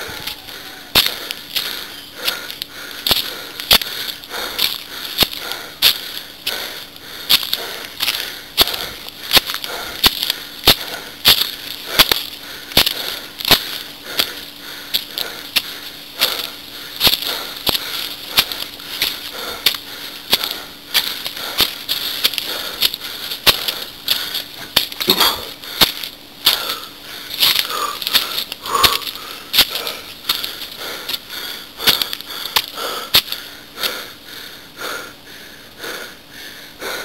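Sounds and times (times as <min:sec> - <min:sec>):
footsteps crunching on dry leaves: 0:00.0 - 0:33.5.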